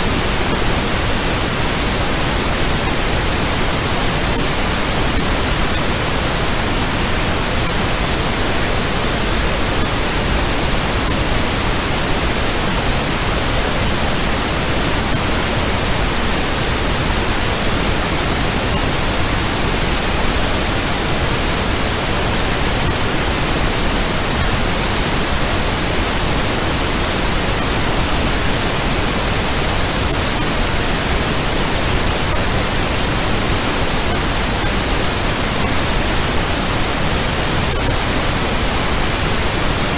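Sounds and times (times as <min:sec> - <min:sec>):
static noise hiss: 0:00.0 - 0:39.9.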